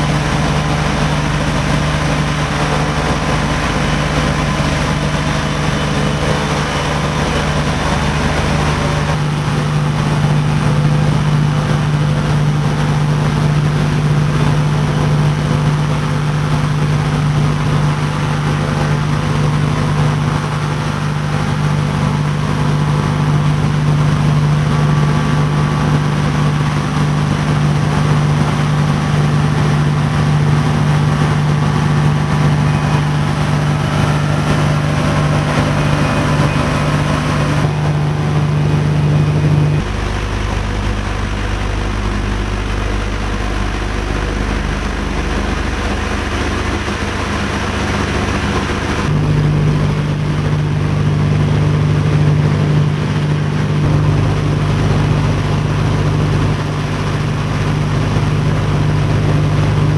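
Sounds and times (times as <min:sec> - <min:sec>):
aircraft engines droning: 0:00.0 - 0:49.6.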